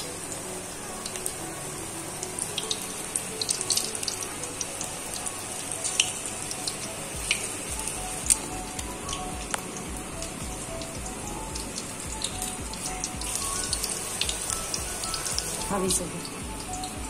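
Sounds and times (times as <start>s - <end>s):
batter sizzling in hot oil: 0.0s - 17.0s
oil crackling and popping: 2.2s - 17.0s.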